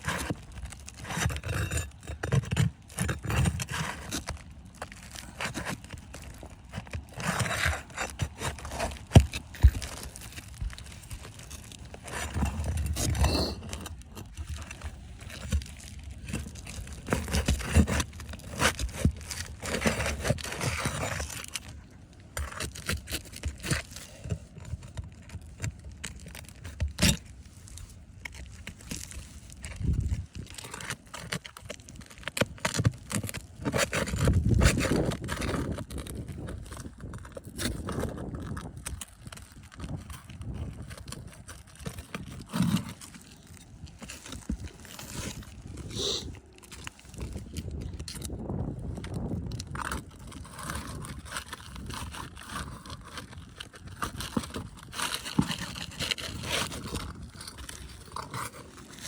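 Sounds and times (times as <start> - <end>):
small hard parts scraping and rattling: 0.0 - 59.0.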